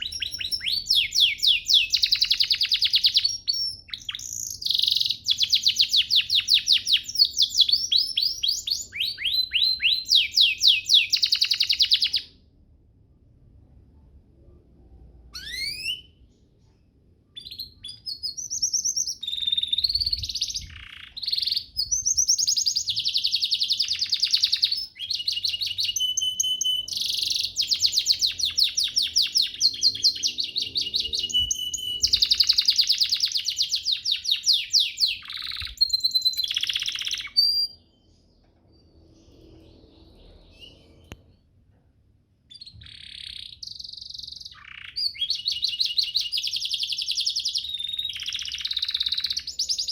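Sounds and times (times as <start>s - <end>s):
canary singing trills: 0.0s - 12.5s, 15.3s - 41.2s, 42.5s - 49.9s.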